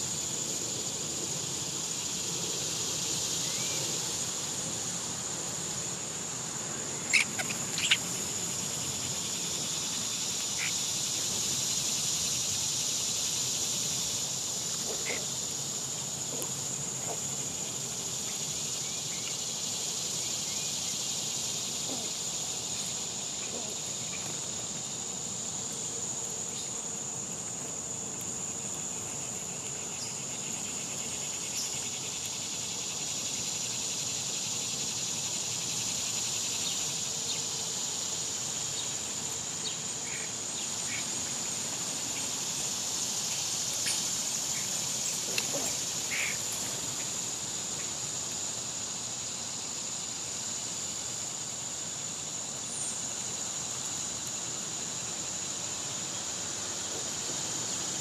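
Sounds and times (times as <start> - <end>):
faint ticks and chirps: 0.0 - 58.0
insects chorus: 0.0 - 58.0.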